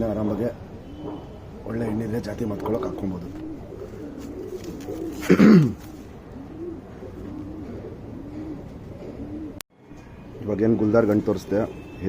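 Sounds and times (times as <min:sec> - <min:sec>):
pigeons cooing: 0:00.3 - 0:12.0.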